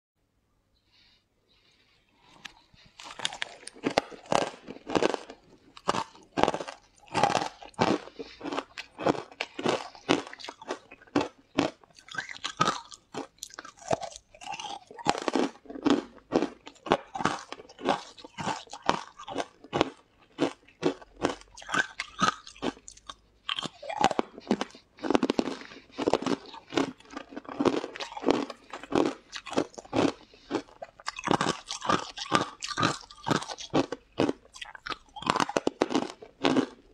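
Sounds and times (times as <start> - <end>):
crunchy biting and chewing: 2.3 - 36.9.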